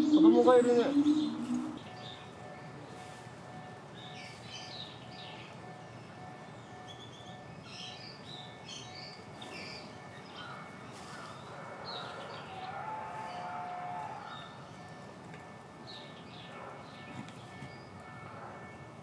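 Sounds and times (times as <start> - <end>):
small birds chirping: 0.0 - 15.2, 15.8 - 18.1.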